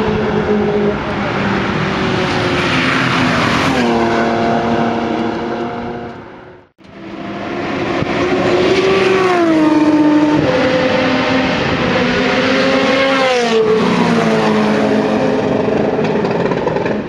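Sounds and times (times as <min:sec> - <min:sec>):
race car engines accelerating: 0:00.0 - 0:17.0.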